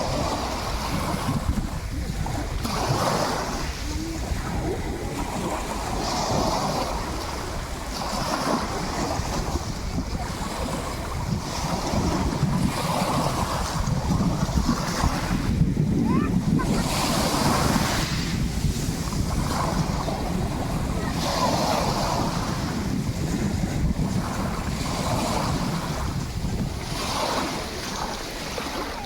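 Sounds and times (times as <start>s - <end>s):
sea waves washing in and out: 0.0s - 29.0s
wind buffeting microphone: 0.0s - 29.0s.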